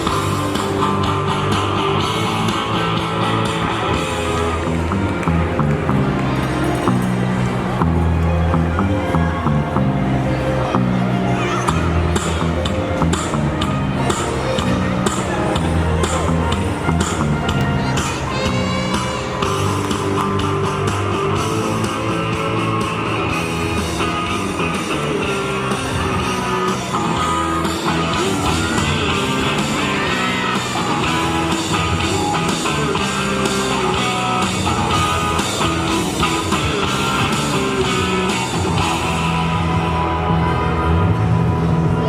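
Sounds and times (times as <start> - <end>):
guitar-led rock music: 0.0 - 42.0.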